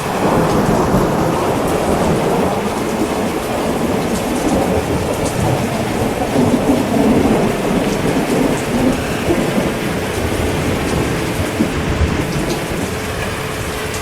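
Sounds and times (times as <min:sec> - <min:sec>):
heavy rain pouring: 0:00.0 - 0:14.0
rolling thunder: 0:00.0 - 0:14.0.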